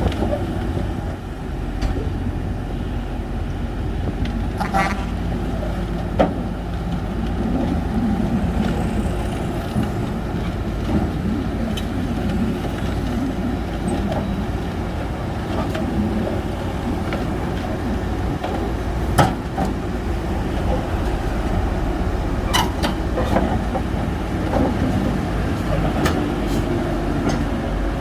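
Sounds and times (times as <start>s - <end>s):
bulldozer diesel engine rumbling: 0.0s - 28.0s.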